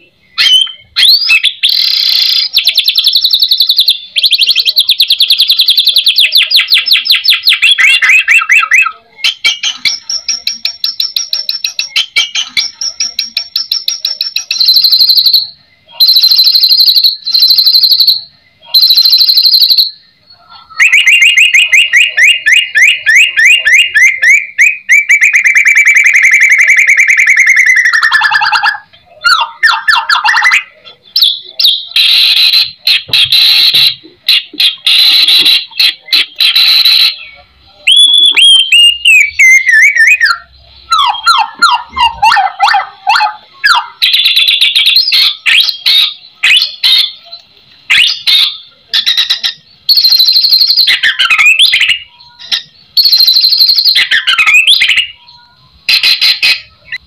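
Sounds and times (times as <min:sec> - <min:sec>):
bird singing rattling phrases: 0:00.0 - 0:57.0.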